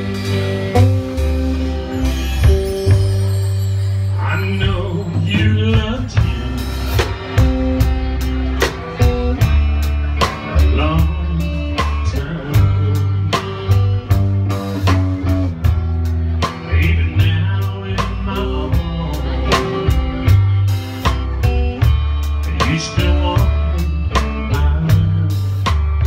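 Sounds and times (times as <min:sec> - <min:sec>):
bass notes: 0:00.0 - 0:26.0
drum kit beat: 0:00.0 - 0:26.0
live blues-rock band: 0:00.0 - 0:26.0.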